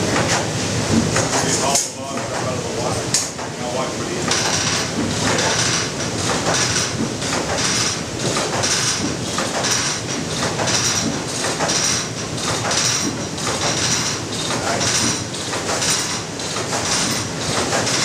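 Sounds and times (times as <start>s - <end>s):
machinery clatter: 0.0s - 18.0s
sawmill machinery rumbling: 0.0s - 18.0s.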